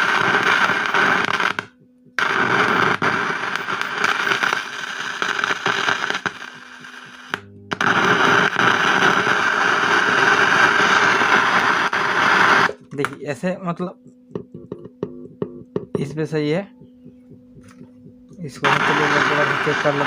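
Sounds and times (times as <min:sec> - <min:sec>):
speaker buzzing loudly: 0:00.0 - 0:20.0.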